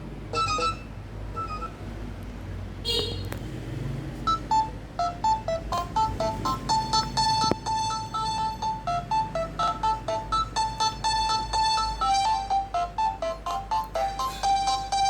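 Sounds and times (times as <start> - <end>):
phone ringtone beeping notes: 0.3 - 1.8, 4.3 - 15.0.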